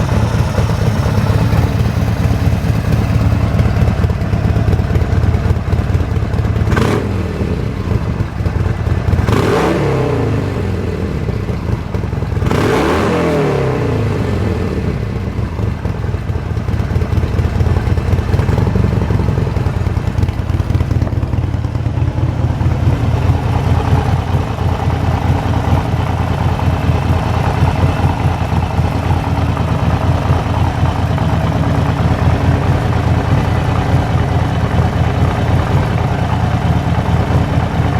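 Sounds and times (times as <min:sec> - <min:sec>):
motorcycle engine revving and idling: 0:00.0 - 0:37.9.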